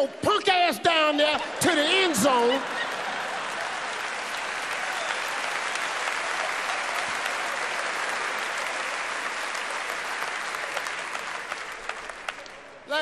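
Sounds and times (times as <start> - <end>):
audience applauding: 1.4 - 12.9.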